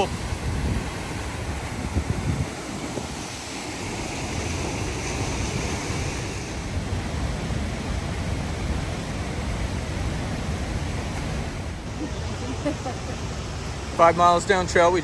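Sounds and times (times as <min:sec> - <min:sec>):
river rushing: 0:00.0 - 0:15.0
wind buffeting microphone: 0:00.0 - 0:15.0.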